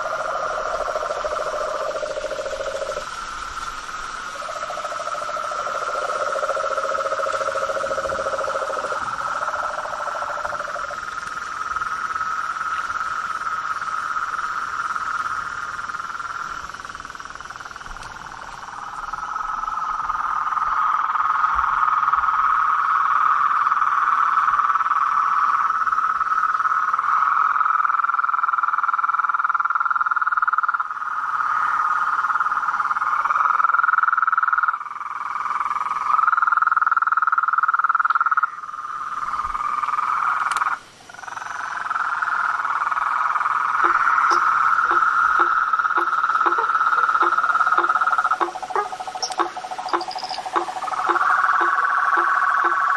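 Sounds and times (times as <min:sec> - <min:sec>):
frog chorus: 0:00.0 - 0:52.9.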